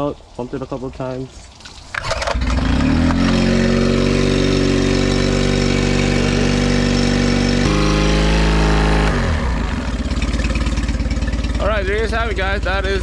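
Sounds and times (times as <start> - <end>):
outboard motor running: 1.9 - 13.0.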